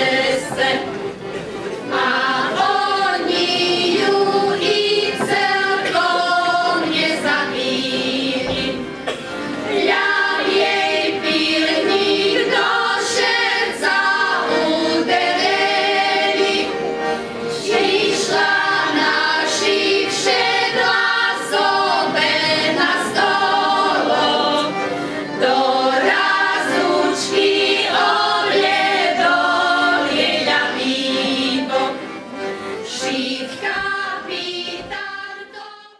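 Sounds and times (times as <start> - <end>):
women's choir singing in harmony: 0.0 - 35.9.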